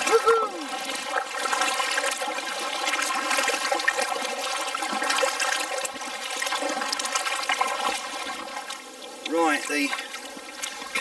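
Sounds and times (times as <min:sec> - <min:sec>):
water rushing along kayak hull: 0:00.0 - 0:11.0.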